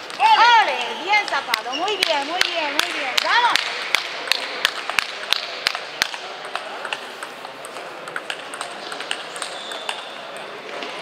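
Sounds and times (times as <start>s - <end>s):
table tennis balls clicking: 0.0s - 11.0s.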